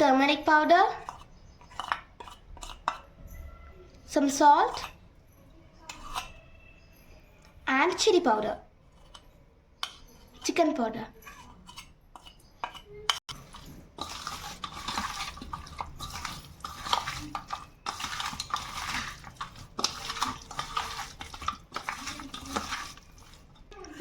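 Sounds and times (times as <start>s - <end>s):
wet scraping and clinking in bowl: 0.0s - 24.0s.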